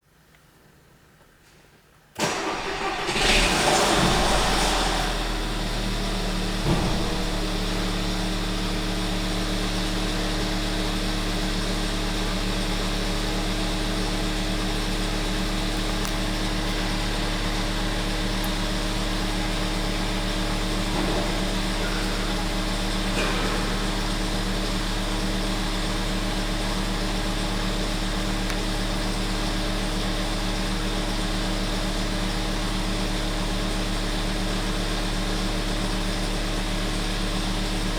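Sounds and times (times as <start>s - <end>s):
car engine cranking and starting: 2.2s - 37.9s
car engine idling: 2.3s - 37.9s.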